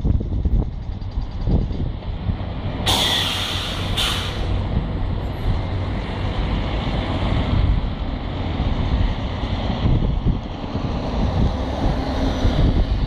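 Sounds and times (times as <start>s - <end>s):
excavator engine rumbling: 0.0s - 13.0s.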